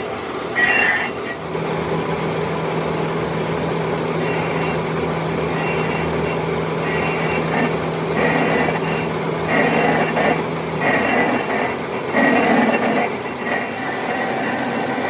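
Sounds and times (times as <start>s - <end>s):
lathe cutting scrape: 0.0s - 2.0s, 4.0s - 15.0s
lathe motor hum: 0.0s - 15.0s.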